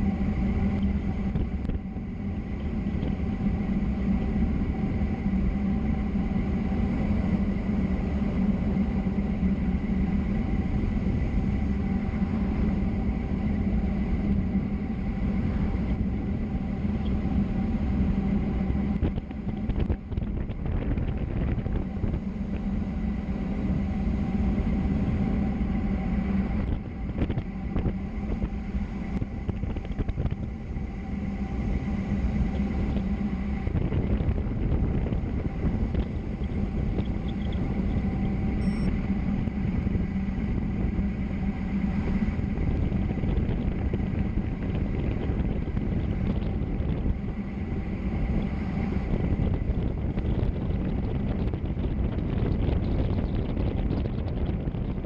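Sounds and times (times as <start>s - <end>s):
faint hum: 0.0s - 55.0s
wind and road noise: 0.0s - 55.0s.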